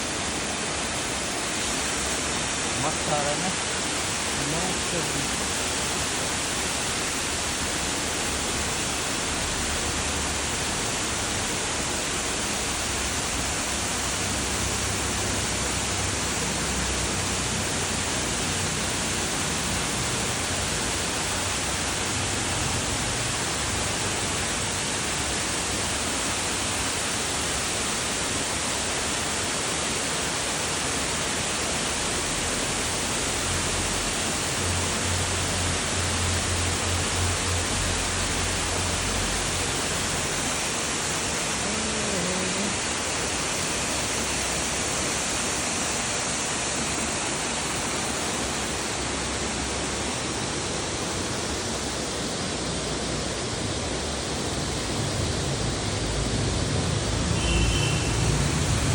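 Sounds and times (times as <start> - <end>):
river rushing: 0.0 - 58.9.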